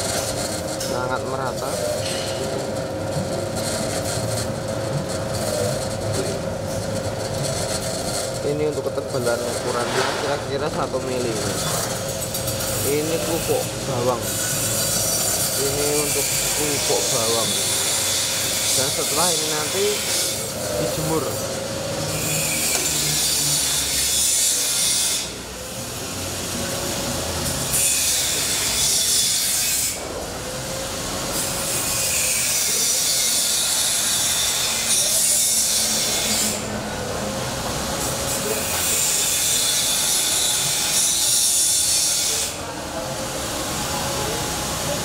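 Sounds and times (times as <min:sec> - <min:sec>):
machine running noise: 0:00.0 - 0:45.0.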